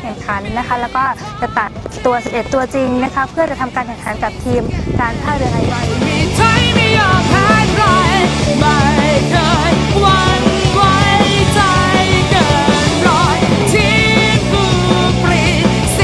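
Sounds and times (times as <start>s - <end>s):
rock song with singing: 0.0s - 16.0s.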